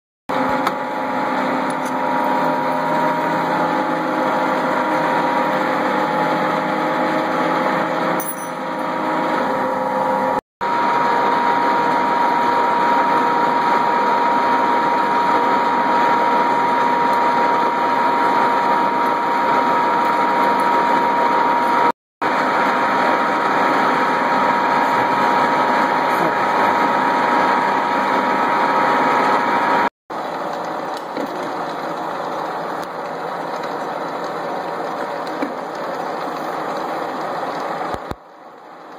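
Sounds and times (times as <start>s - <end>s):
metal lathe running: 0.3s - 38.1s.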